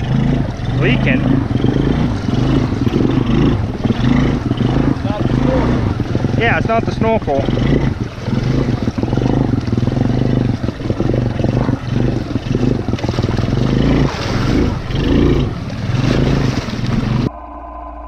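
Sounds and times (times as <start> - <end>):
quad engine running: 0.0 - 17.3
water churning and splashing: 0.0 - 17.3.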